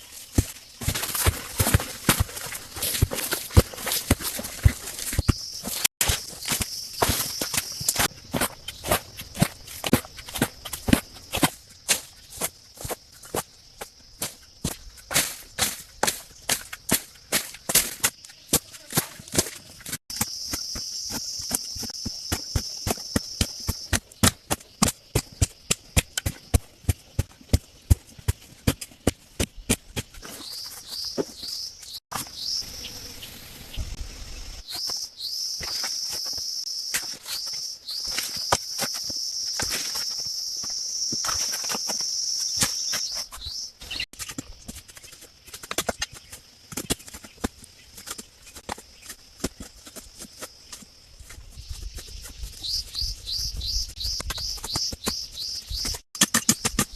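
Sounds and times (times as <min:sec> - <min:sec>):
high insect trill: 0:00.0 - 0:28.5, 0:29.5 - 0:56.6.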